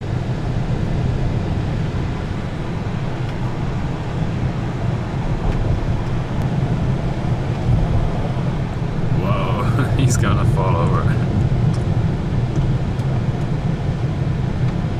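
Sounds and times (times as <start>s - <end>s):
road noise: 0.0s - 14.9s
vehicle engine rumble: 0.0s - 14.9s.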